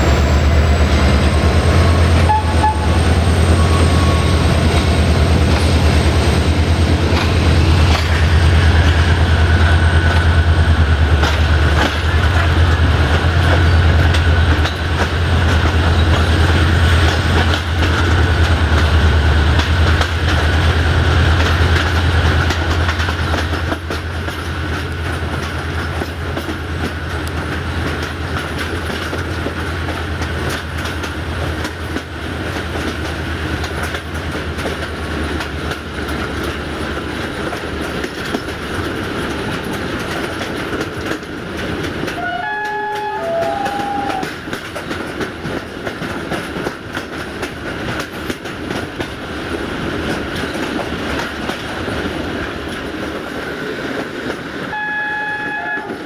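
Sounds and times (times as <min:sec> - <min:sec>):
diesel train engine droning: 0:00.0 - 0:46.0
wheels clicking over rail joints: 0:04.6 - 0:54.7.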